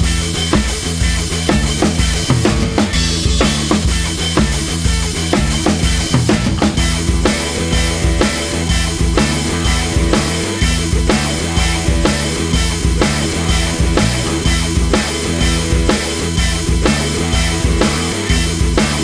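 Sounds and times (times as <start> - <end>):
driving drum beat: 0.0 - 19.0
heavy bass line: 0.0 - 19.0
rock music: 0.0 - 19.0.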